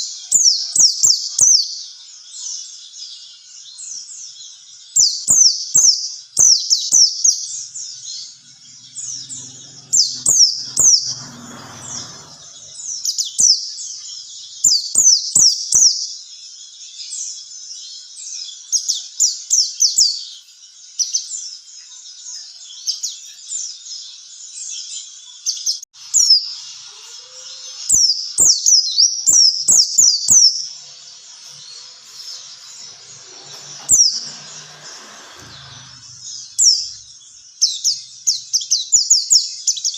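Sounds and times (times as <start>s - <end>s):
bird song of quick chirps: 0.0s - 39.9s.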